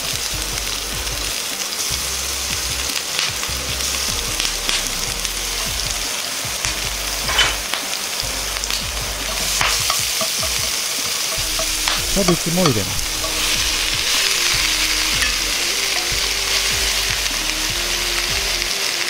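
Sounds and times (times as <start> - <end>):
vegetables sizzling in frying pan: 0.0 - 19.0.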